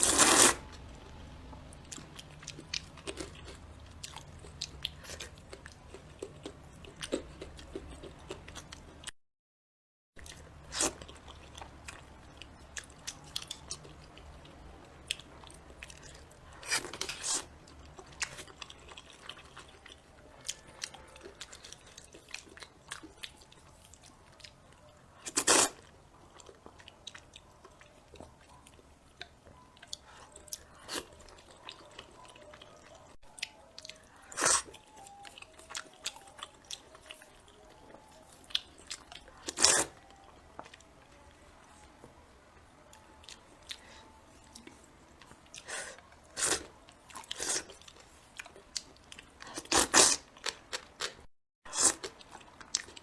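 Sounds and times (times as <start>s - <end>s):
person chewing and crunching food: 0.0s - 9.1s, 10.2s - 53.0s.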